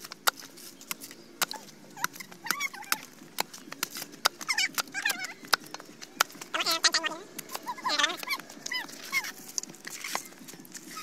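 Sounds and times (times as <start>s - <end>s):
billhook chopping coconut husk: 0.0s - 10.9s.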